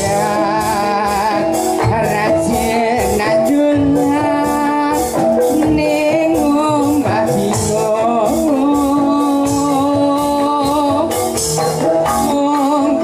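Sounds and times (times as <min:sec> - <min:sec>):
hand drum: 0:00.0 - 0:13.0.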